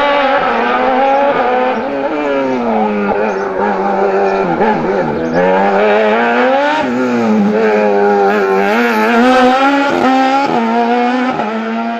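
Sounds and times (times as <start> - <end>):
race car engine revving: 0.0 - 11.9.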